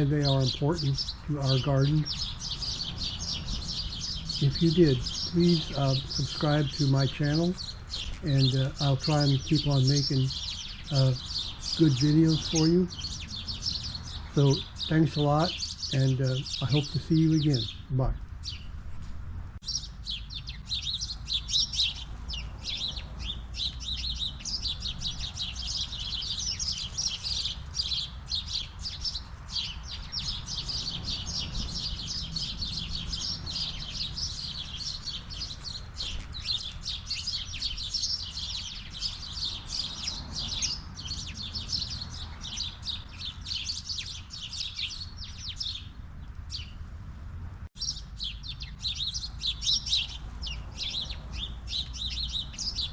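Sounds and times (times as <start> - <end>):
sparrows chirping: 0.0 - 46.9, 47.8 - 52.9.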